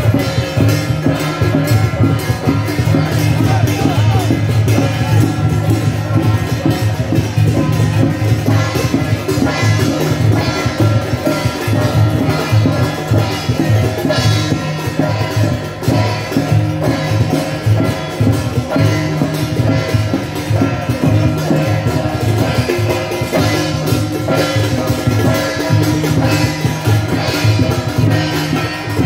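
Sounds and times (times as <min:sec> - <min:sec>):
music with steady drum beat: 0:00.0 - 0:29.0.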